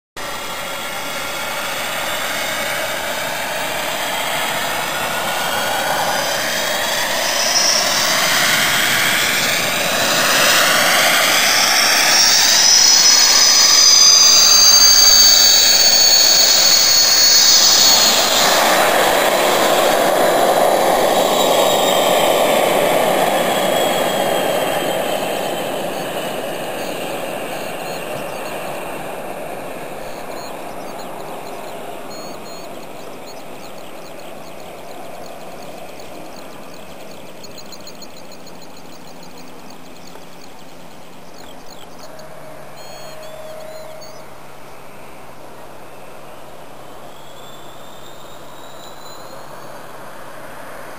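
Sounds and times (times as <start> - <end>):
jet go-kart turbine whine: 0.2 - 50.9.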